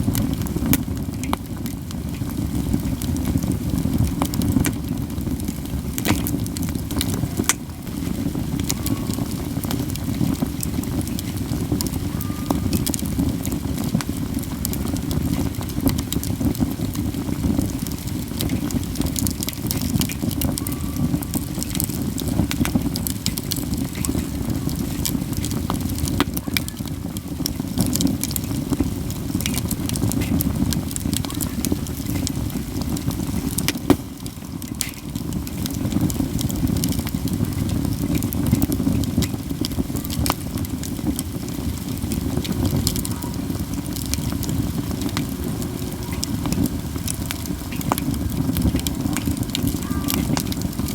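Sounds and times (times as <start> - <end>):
campfire crackling: 0.0 - 50.9
loud pops from fire: 0.0 - 50.9.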